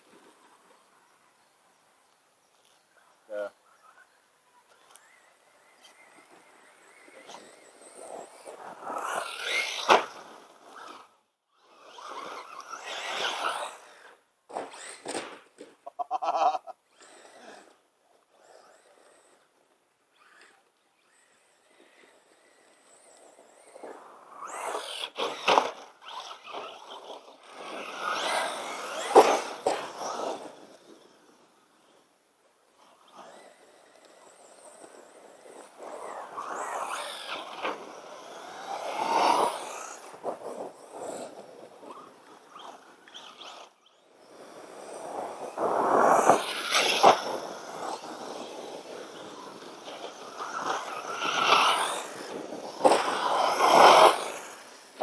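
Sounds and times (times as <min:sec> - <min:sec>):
rc car motor and tyres on dirt: 0:00.0 - 0:55.0.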